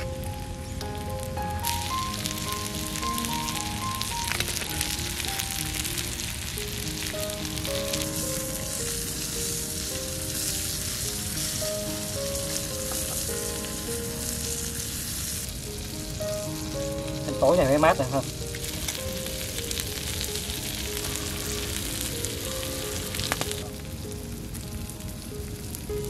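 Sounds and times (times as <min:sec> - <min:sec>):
meat sizzling on hot tile: 0:00.0 - 0:26.0
soft melody: 0:00.0 - 0:26.0.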